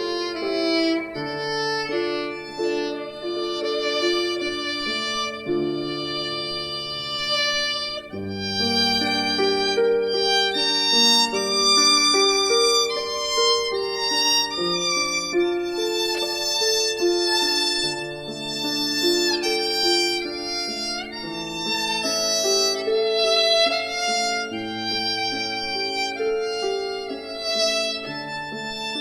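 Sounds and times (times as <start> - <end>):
bowed and plucked string melody: 0.0 - 29.0.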